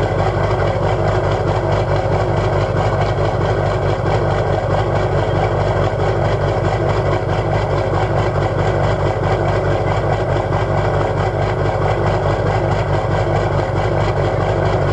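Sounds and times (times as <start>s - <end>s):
diesel engine idling unevenly: 0.0s - 14.9s.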